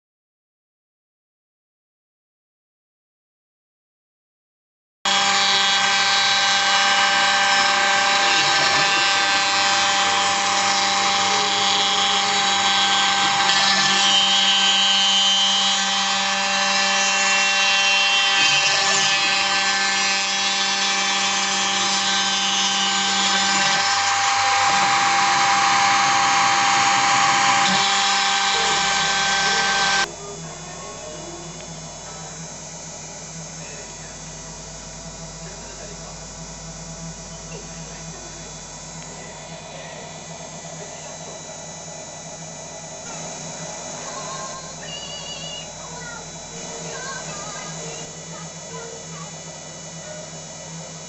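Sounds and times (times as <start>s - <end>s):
milling spindle whining: 5.1s - 51.0s.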